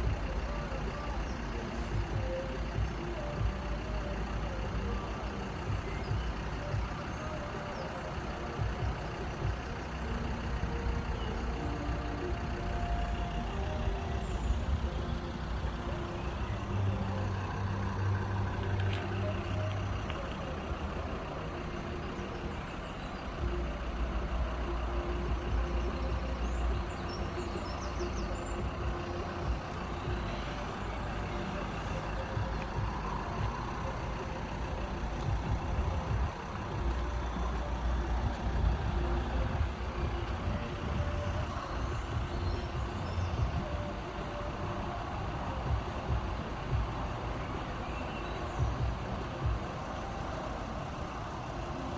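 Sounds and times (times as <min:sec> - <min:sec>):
heavy vehicle engines idling: 0:00.0 - 0:51.9.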